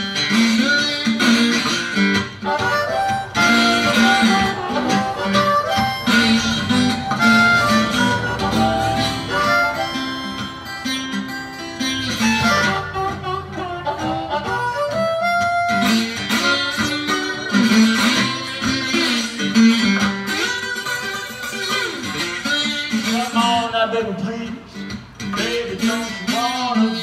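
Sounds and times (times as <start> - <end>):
guitar playing lead notes: 0.0 - 27.0.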